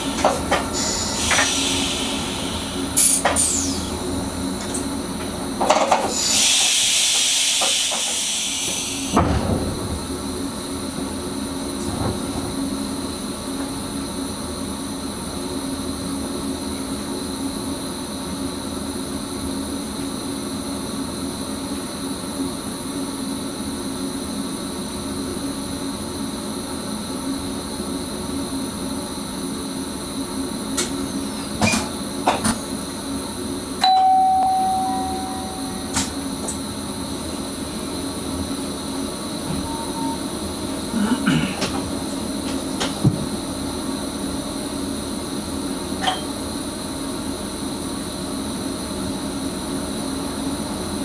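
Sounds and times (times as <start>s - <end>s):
electric train motor hum: 0.0s - 31.5s, 32.1s - 51.0s.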